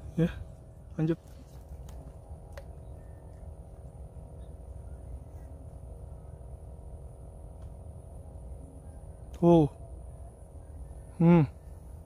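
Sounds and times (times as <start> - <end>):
faint hum: 0.0 - 12.0
high steady whine: 0.0 - 12.0
low steady rumble: 0.0 - 12.0.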